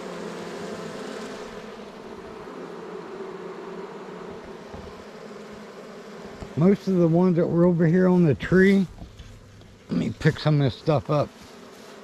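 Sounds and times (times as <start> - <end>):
bee swarm humming: 0.0 - 12.0.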